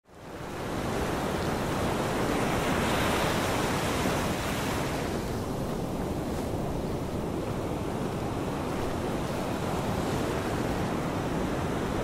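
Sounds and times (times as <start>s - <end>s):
wind: 0.0s - 12.0s
ocean surf: 0.2s - 12.0s.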